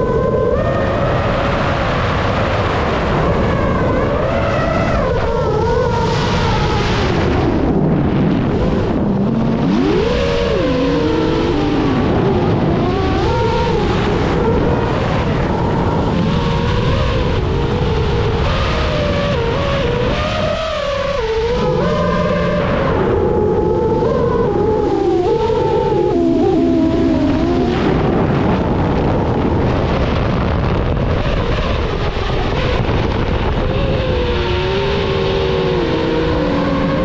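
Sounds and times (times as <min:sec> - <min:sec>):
paramotor engine and propeller: 0:00.0 - 0:37.0
wind noise: 0:00.0 - 0:37.0.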